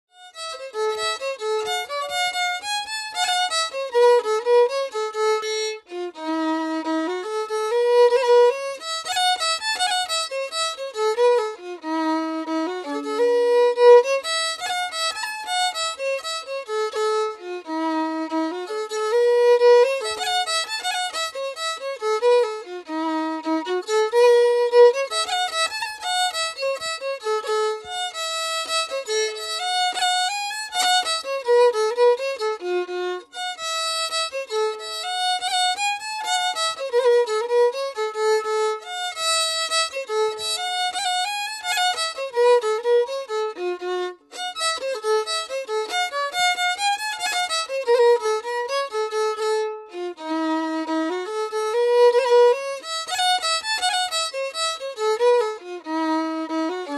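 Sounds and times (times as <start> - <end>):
fiddle playing quick melody: 0.1 - 56.9.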